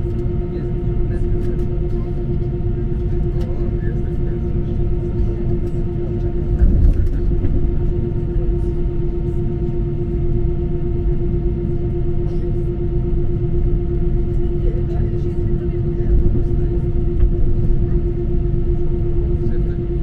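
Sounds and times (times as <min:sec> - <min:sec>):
jet engines droning: 0:00.0 - 0:20.0
low rumble of rolling aircraft: 0:00.0 - 0:20.0.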